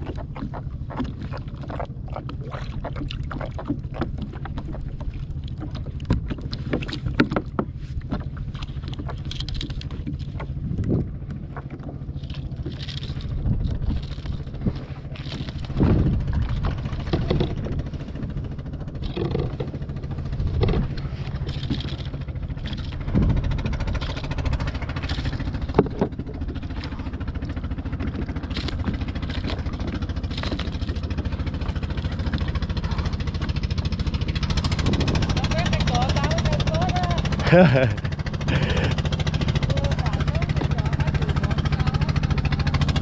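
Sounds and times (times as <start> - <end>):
boat engine droning: 0.0 - 43.0
gear knocking against kayak hull: 0.0 - 43.0.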